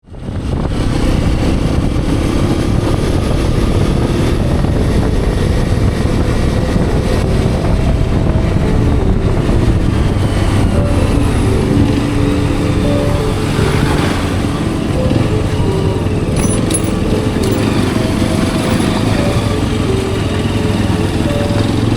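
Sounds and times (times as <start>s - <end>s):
wind rumble on microphone: 0.0s - 21.9s
motorcycle engine running: 0.4s - 21.9s.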